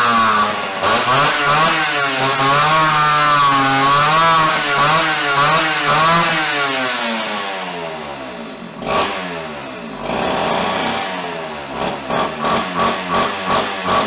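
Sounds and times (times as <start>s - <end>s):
chainsaw engine running unevenly: 0.0s - 14.0s.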